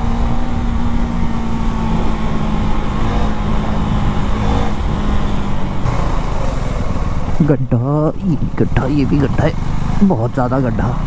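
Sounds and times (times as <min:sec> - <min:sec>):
motorcycle engine cruising: 0:00.0 - 0:11.0
wind rush and road noise: 0:00.0 - 0:11.0.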